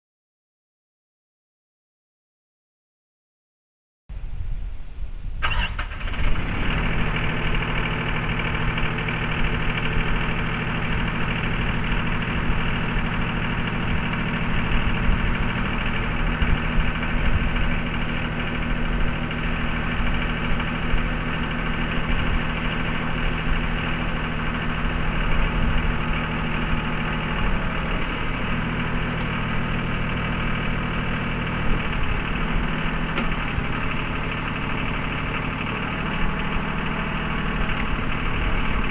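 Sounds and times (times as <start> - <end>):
tractor diesel engine running: 5.3 - 38.9.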